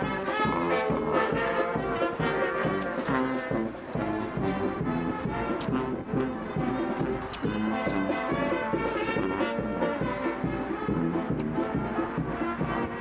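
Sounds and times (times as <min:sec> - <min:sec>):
steady drum beat: 0:00.0 - 0:13.0
trumpets: 0:00.0 - 0:13.0.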